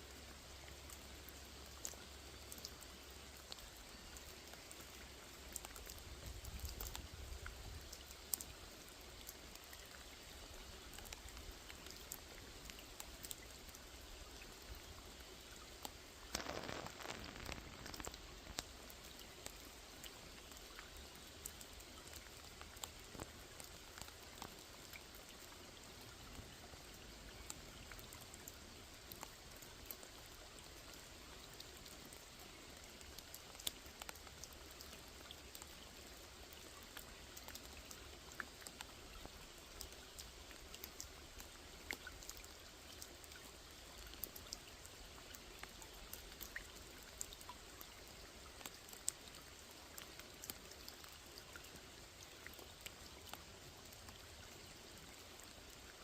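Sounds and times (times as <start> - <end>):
light rain with drops ticking: 0.0 - 56.0.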